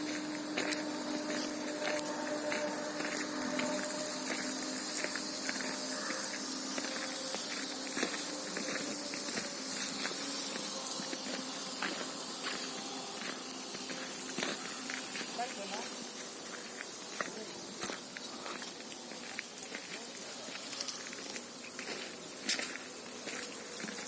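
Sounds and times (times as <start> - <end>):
faint steady hum: 0.0 - 24.0
insects hissing: 0.0 - 24.0.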